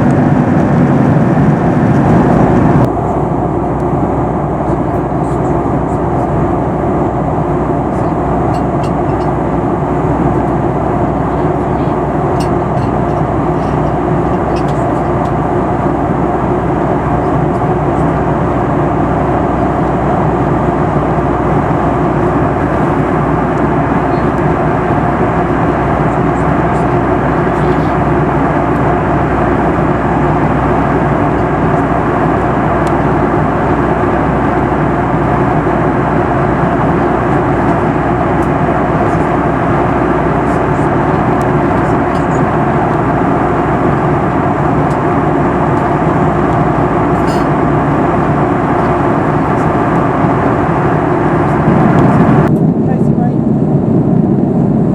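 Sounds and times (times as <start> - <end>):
airplane cabin roar: 0.0 - 54.9.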